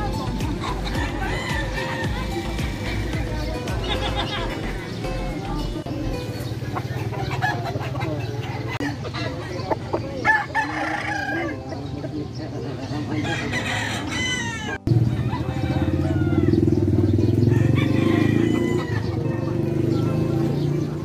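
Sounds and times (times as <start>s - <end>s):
roosters crowing: 0.0s - 5.0s, 6.8s - 11.9s, 12.8s - 20.7s
market noise: 0.0s - 21.0s
steady background din: 0.0s - 21.0s.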